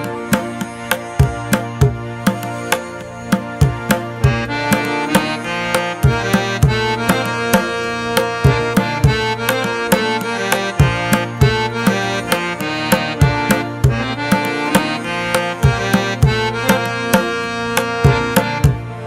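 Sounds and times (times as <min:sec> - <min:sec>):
hand drum beat: 0:00.0 - 0:18.8
sustained instrumental tones: 0:00.0 - 0:19.0.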